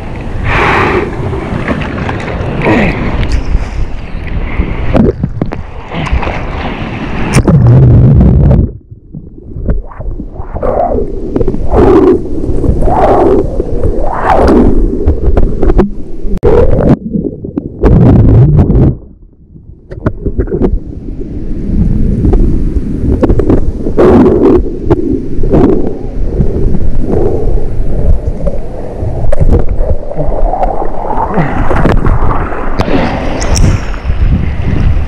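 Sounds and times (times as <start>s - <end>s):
wind noise on microphone: 0.0s - 35.0s.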